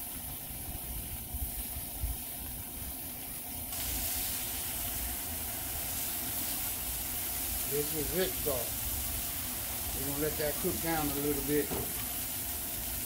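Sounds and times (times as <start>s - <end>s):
meat sizzling on griddle: 0.0s - 13.0s.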